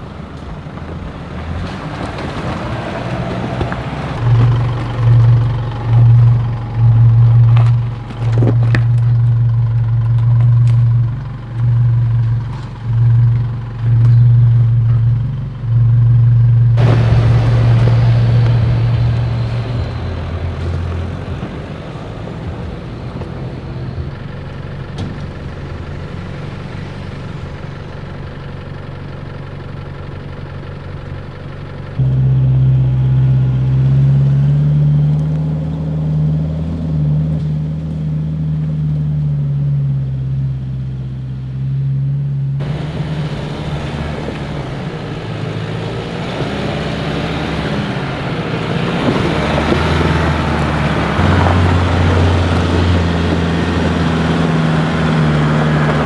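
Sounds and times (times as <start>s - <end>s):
four-wheel drive engine droning: 0.0s - 56.0s.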